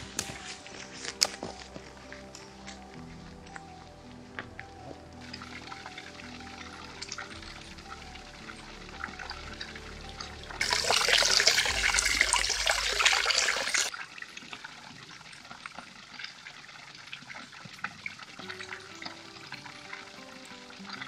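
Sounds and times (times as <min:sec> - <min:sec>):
faint water trickle: 0:02.0 - 0:21.0.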